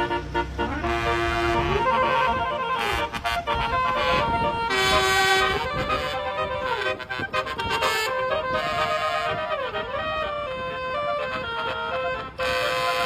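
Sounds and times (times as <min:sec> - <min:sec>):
musical vehicle horn tune: 0:00.0 - 0:13.0.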